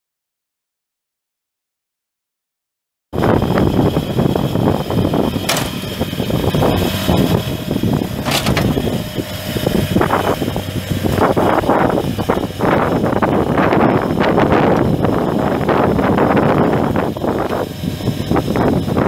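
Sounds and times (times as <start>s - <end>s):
diesel mower engine running: 3.2s - 19.0s.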